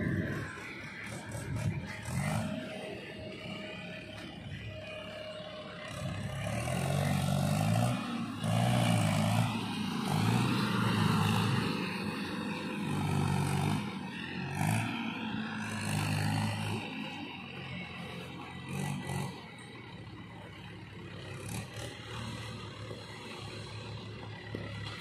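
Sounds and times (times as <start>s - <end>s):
motorcycle passing: 0.0s - 20.6s
tractor engine running: 0.0s - 25.0s
vehicles passing on road: 0.0s - 25.0s.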